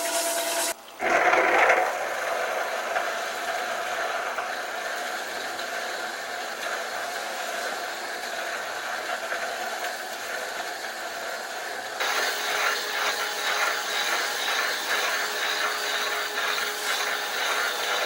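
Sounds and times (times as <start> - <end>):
metal lathe whirring: 0.0 - 18.0
rough machine noise with tone: 0.0 - 18.0.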